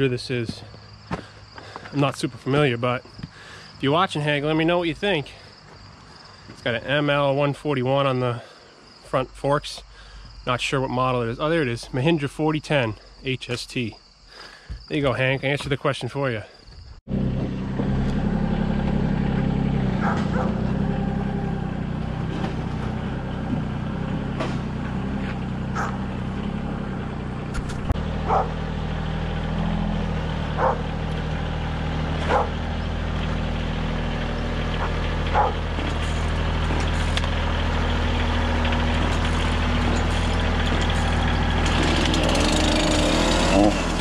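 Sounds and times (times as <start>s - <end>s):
tractor diesel engine running: 0.0s - 15.6s, 17.1s - 44.0s.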